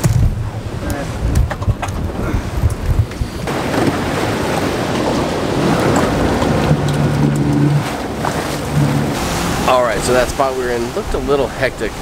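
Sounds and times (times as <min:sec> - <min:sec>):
sea water washing around boat: 0:00.0 - 0:12.0
wind rushing over microphone: 0:00.0 - 0:12.0.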